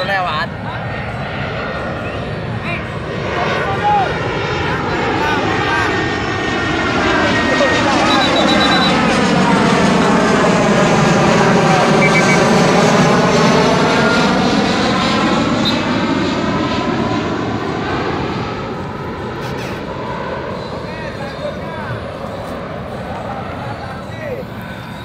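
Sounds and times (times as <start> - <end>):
airplane engine rush: 0.0 - 25.0.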